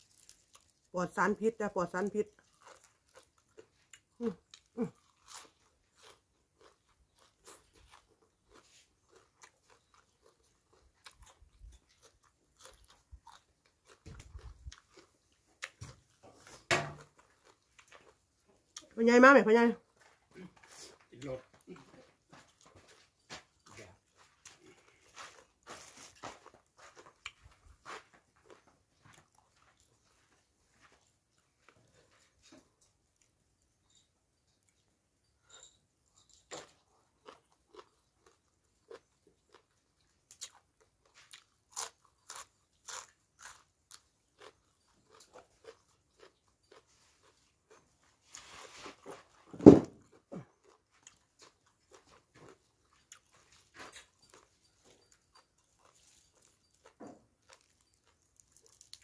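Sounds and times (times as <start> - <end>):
person chewing crunchy food: 0.0 - 0.9, 2.3 - 18.9, 19.9 - 59.0.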